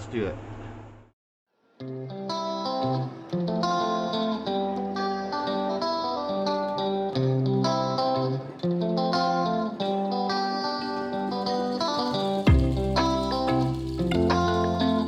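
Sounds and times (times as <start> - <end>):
guitar background music: 1.8 - 15.0.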